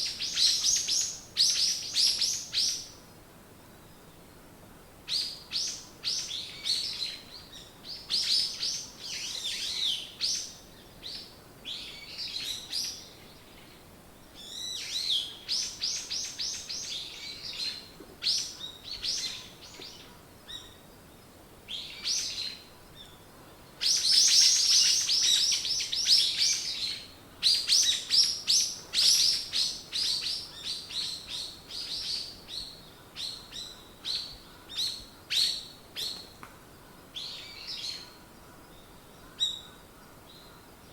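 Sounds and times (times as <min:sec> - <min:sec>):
small songbirds chirping: 0:00.0 - 0:04.2, 0:05.1 - 0:40.9.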